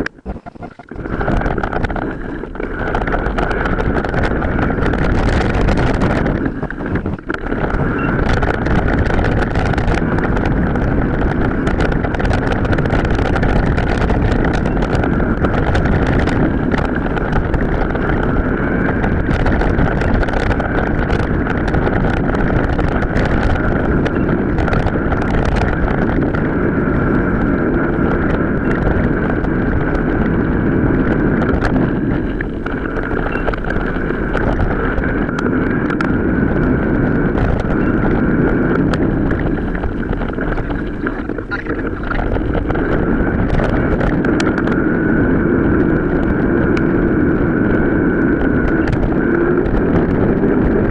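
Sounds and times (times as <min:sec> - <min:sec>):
mountain bike rattling: 0:00.0 - 0:50.9
wind buffeting microphone: 0:00.0 - 0:50.9.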